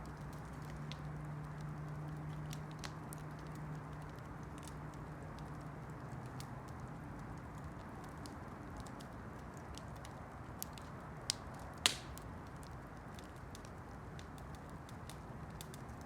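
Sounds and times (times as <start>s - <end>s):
campfire rushing: 0.0s - 16.0s
wood crackling and popping: 0.0s - 16.0s.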